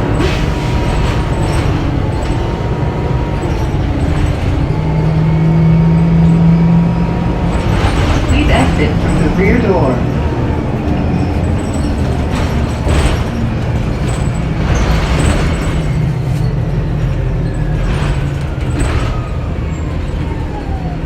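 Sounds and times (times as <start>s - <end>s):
bus engine drone from inside: 0.0s - 21.0s.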